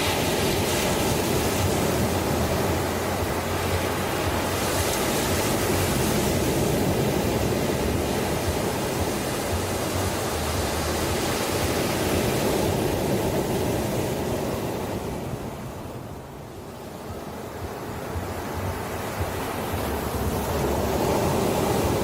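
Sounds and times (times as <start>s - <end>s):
waves breaking: 0.0s - 22.0s.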